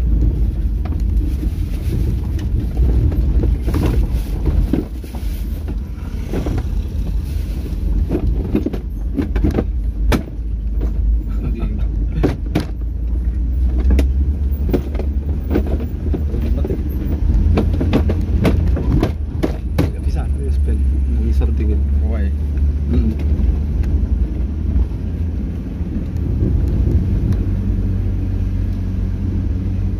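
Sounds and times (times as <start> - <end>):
vehicle rumbling on stony road: 0.0 - 29.9.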